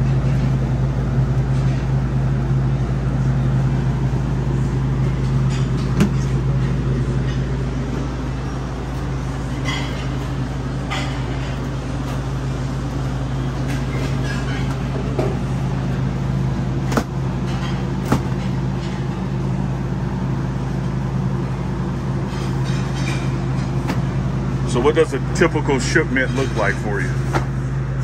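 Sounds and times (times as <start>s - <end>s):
kitchen machinery humming: 0.0s - 28.0s.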